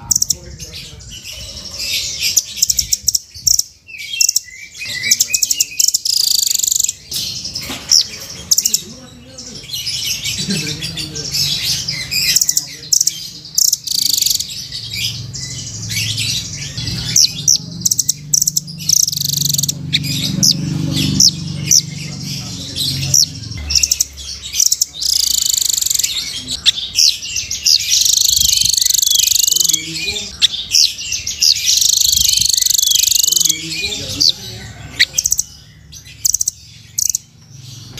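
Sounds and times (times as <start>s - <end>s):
bird chirping and trilling: 0.0s - 37.9s.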